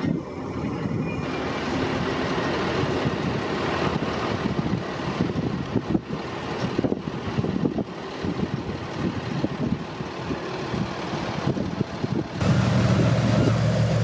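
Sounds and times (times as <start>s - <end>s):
fire engines idling: 0.0s - 14.0s
passenger train rolling past: 0.0s - 14.0s.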